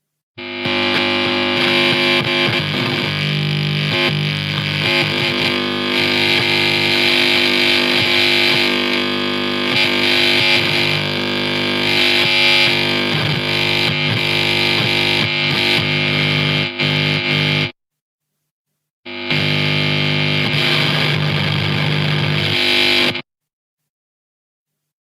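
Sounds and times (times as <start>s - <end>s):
amplifier distorted buzz and hum: 0.4s - 17.8s, 19.1s - 23.3s.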